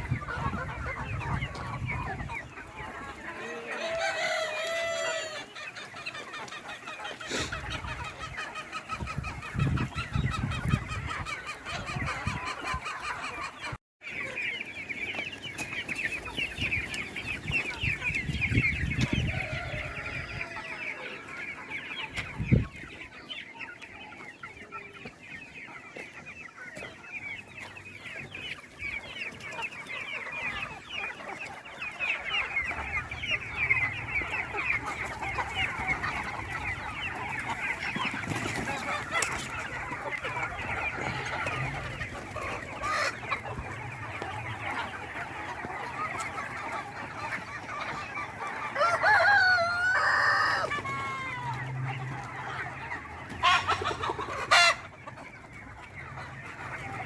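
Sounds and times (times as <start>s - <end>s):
chickens calling: 0.0s - 57.0s.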